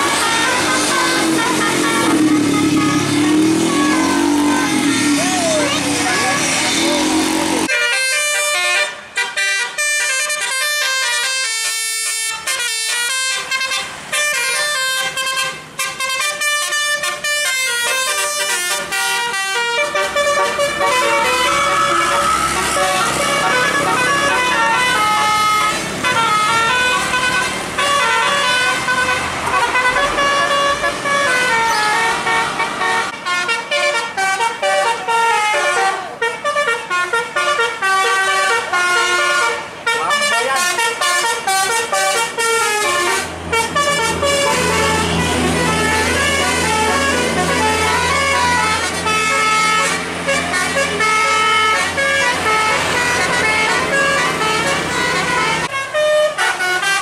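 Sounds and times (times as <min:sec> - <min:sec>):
musical air horns playing melodies: 0:00.0 - 0:57.0.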